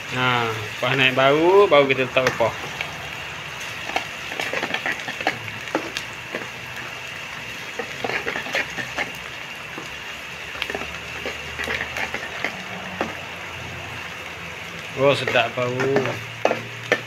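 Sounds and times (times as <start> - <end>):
aromatics sizzling in hot oil: 0.0 - 17.0
crackles and light clicks: 2.2 - 17.0.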